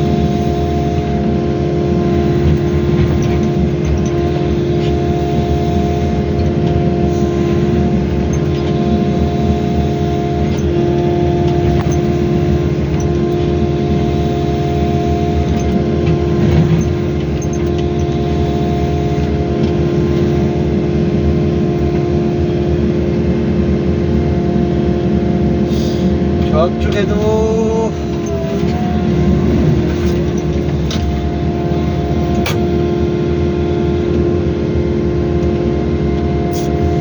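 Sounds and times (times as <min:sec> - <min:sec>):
excavator diesel engine and hydraulics: 0:00.0 - 0:37.0.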